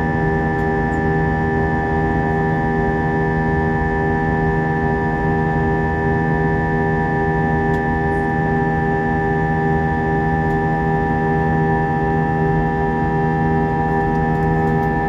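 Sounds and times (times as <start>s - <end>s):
aircraft cabin engine rumble: 0.0s - 15.0s
constant tonal hum: 0.0s - 15.0s.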